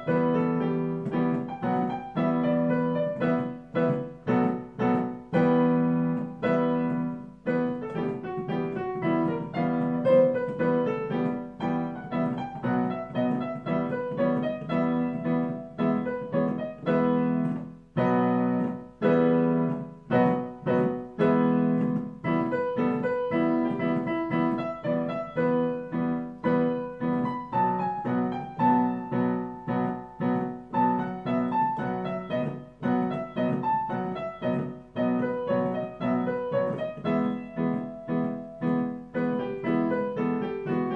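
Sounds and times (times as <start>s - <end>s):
solo piano: 0.0s - 40.9s.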